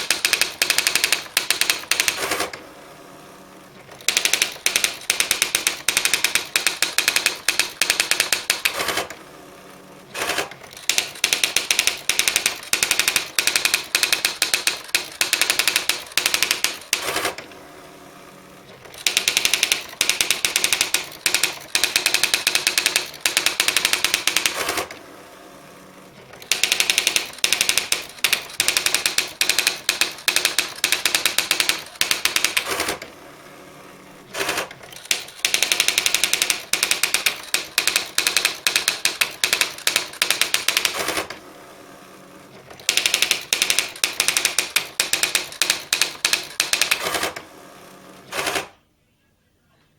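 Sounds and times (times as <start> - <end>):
electronic typewriter printing: 0.0 - 2.6, 3.7 - 9.2, 10.1 - 17.7, 18.6 - 25.1, 26.1 - 33.4, 34.2 - 41.5, 42.6 - 47.5, 48.2 - 48.8.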